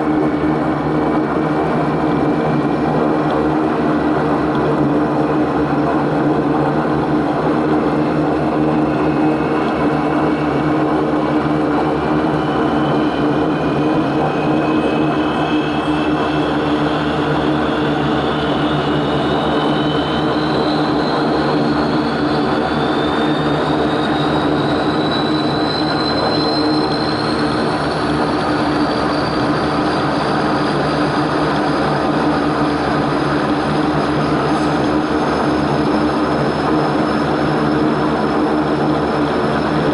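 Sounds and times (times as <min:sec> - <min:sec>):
propeller drone: 0:00.0 - 0:39.9
thin turbine whine: 0:00.0 - 0:39.9.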